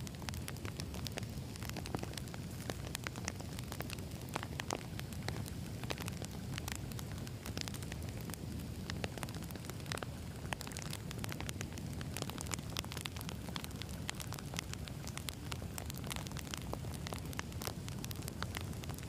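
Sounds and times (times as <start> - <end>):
campfire low rumble: 0.0 - 19.0
fire crackling and popping: 0.0 - 19.0.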